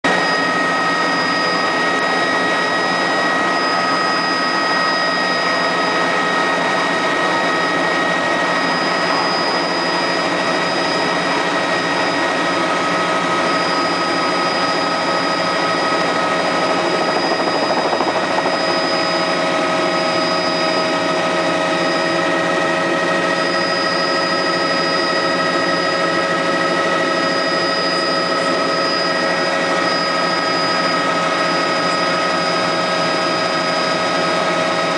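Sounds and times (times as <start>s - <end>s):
helicopter engine and rotor: 0.0s - 34.9s
high whines: 0.1s - 31.2s.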